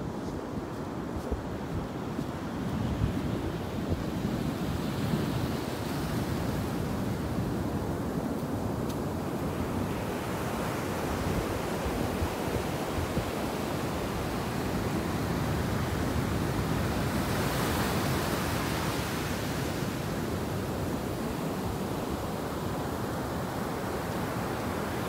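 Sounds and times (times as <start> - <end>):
ocean surf breaking on beach: 0.2 - 25.0.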